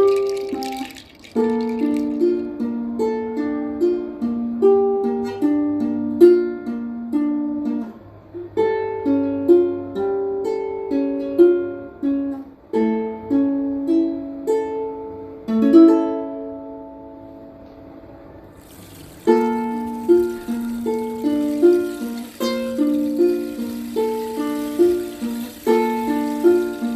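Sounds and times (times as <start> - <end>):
ukulele fingerpicking melody: 0.0 - 17.9, 18.6 - 26.9.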